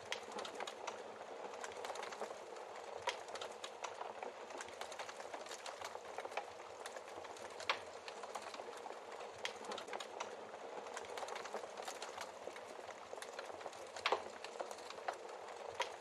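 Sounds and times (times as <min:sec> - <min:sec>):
small fire pops: 0:00.0 - 0:16.0
wood fire crackling: 0:00.0 - 0:16.0.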